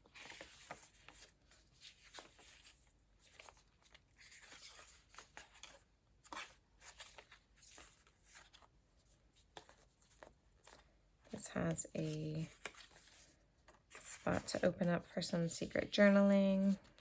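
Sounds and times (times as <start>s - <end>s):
paper pages rustling and tapping: 0.0s - 17.0s.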